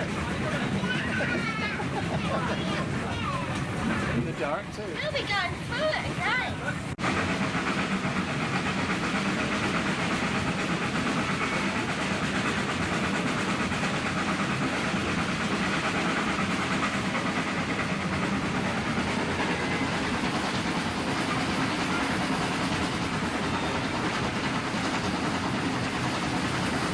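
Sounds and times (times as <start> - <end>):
train wheels clickety-clack on rails: 0.0 - 26.9.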